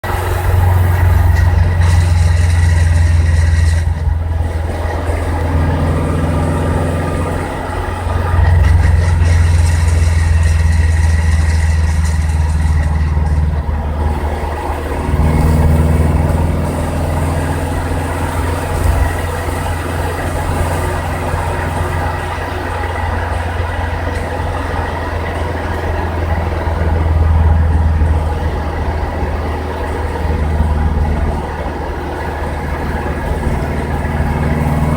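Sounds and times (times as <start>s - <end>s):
car engine droning: 0.0s - 34.9s.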